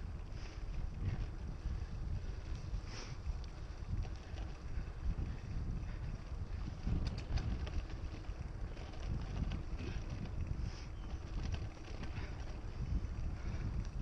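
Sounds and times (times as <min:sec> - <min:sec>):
bike tyres and frame rumble: 0:00.0 - 0:14.0
wind on microphone: 0:00.0 - 0:14.0.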